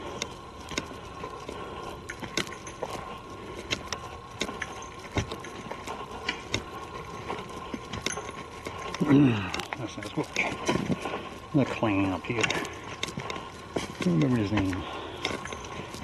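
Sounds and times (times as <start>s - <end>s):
footsteps on leaves and twigs: 0.0s - 16.0s.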